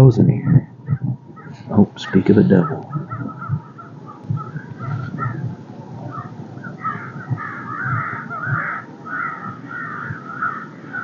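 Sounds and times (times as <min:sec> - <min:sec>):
wind gusts on microphone: 0:00.0 - 0:11.0
crows cawing: 0:00.6 - 0:11.0.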